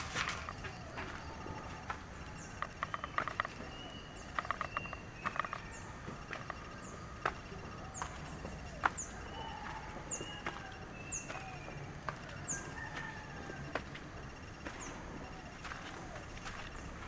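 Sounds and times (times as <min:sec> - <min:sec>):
bird chirping: 0:00.0 - 0:17.0
footsteps on concrete and stone: 0:00.0 - 0:17.0.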